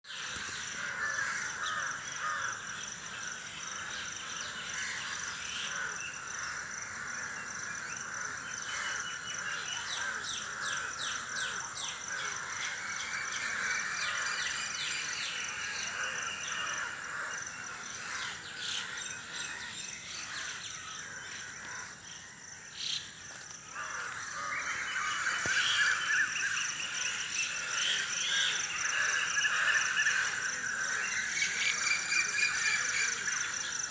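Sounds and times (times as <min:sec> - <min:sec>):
birds chirping and calling: 0:00.1 - 0:33.9.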